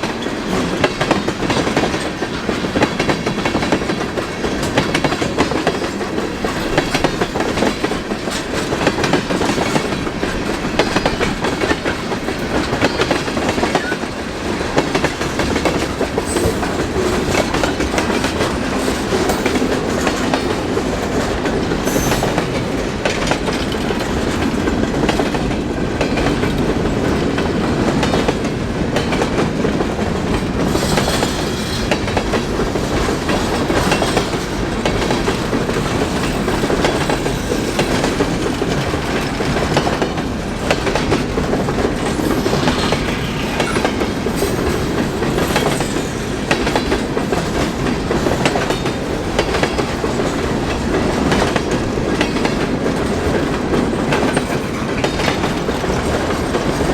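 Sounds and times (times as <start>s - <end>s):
clickety-clack over rail joints: 0.0s - 56.9s
train wheels rumbling: 0.0s - 56.9s.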